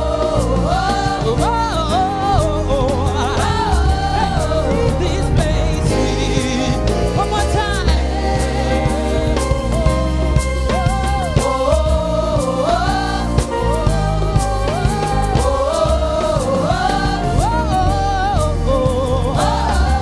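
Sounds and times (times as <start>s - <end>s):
gospel singing over a band: 0.0s - 20.0s.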